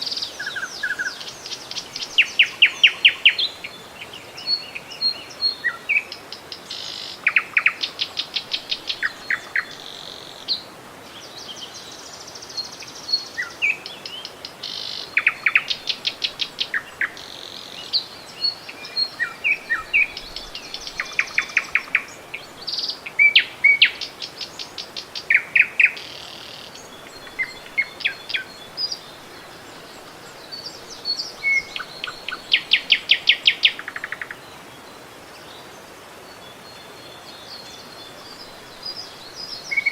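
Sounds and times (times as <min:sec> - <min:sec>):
running river water: 0:00.0 - 0:39.9
songbirds singing: 0:00.0 - 0:39.9.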